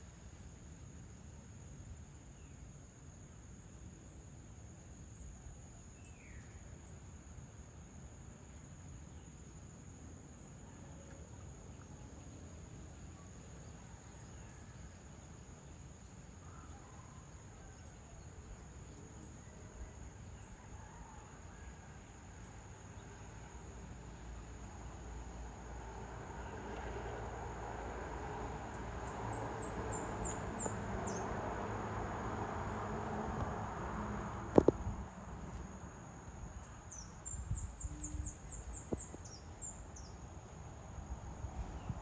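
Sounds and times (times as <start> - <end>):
insect chorus drone: 0.0 - 42.0.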